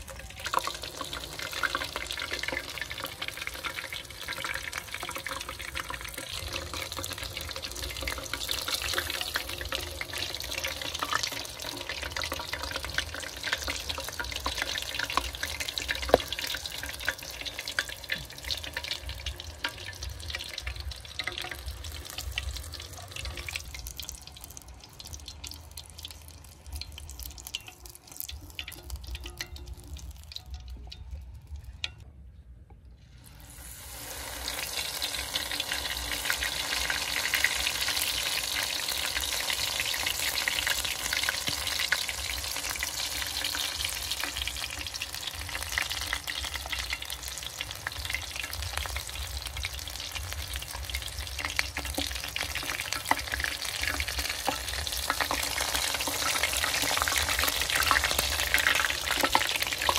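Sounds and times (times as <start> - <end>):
food sizzling in hot oil: 0.0 - 32.0, 33.0 - 59.9.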